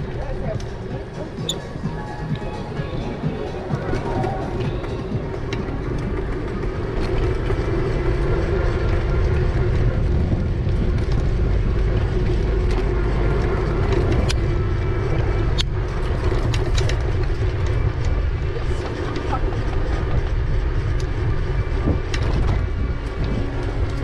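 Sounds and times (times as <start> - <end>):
bicycle road noise: 0.0 - 24.0
steady low hum: 0.0 - 24.0
wind buffeting microphone: 0.0 - 24.0.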